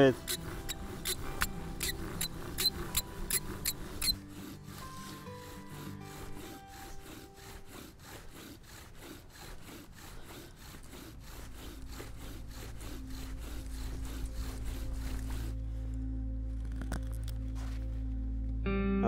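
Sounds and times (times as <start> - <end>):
bow drill wood rubbing on wood: 0.0 - 16.0.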